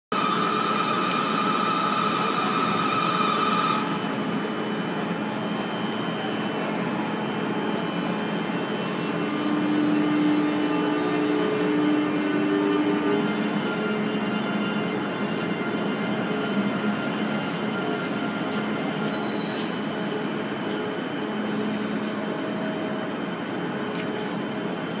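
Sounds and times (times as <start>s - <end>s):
echoing station hall noise: 0.1s - 25.0s
high steady whine: 0.1s - 25.0s.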